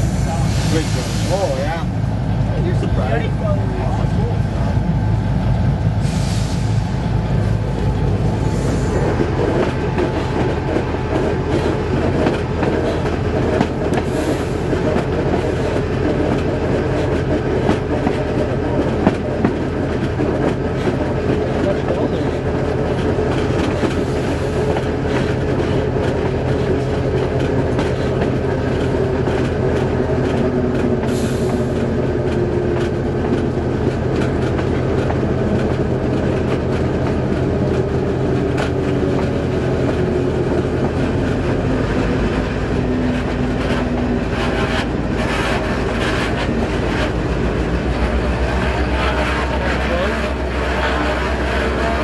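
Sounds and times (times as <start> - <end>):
diesel locomotive engine drone: 0.0 - 52.0
train wheels clattering on rails: 0.0 - 52.0.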